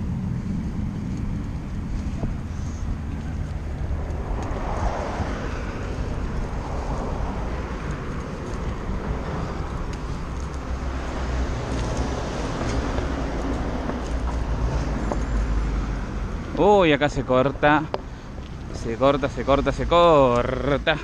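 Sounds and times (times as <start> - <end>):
rumble of car traffic: 0.0 - 21.0.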